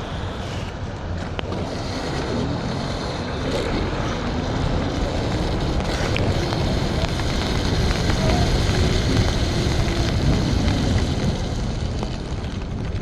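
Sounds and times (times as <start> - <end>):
tyre noise on wet road: 0.0 - 13.0
wind buffeting microphone: 1.4 - 13.0.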